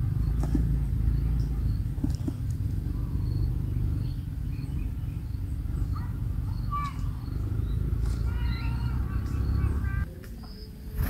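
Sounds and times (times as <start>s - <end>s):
bird chicks chirping: 0.0s - 10.7s.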